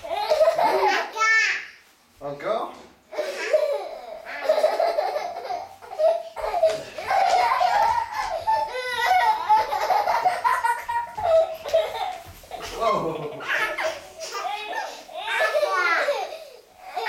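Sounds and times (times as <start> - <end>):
children laughing: 0.0 - 1.1, 3.1 - 17.0.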